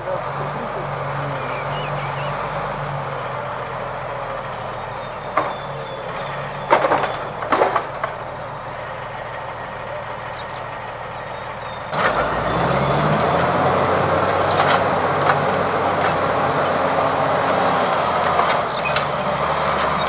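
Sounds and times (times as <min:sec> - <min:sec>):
diesel engine running: 0:00.0 - 0:20.0
engine revving: 0:00.0 - 0:20.0.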